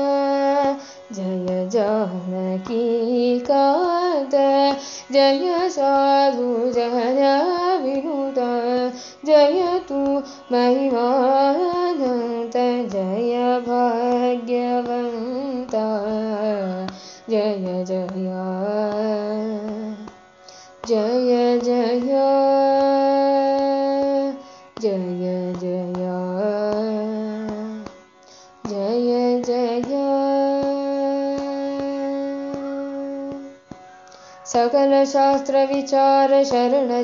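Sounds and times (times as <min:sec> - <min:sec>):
devotional melody with ornamented notes: 0:00.0 - 0:37.0.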